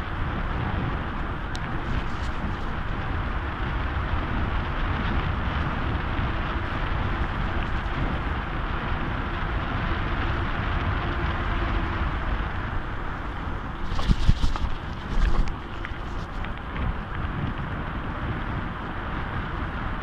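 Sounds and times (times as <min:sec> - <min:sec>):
tyres rolling on asphalt: 0:00.0 - 0:20.0
wind rushing over microphone: 0:00.0 - 0:20.0.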